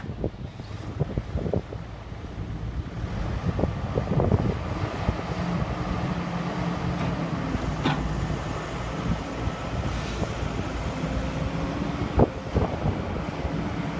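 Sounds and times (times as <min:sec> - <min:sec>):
engine running: 0:00.0 - 0:13.9.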